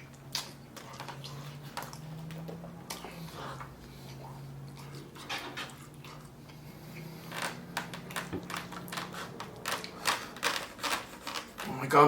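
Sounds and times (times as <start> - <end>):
wet chewing and lip smacking: 0.0 - 11.7.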